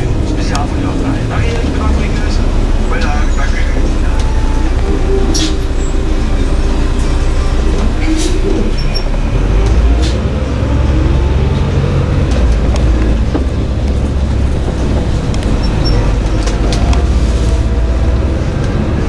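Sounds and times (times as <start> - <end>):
bus body rattles: 0.0 - 19.0
bus engine rumbling: 0.0 - 19.0.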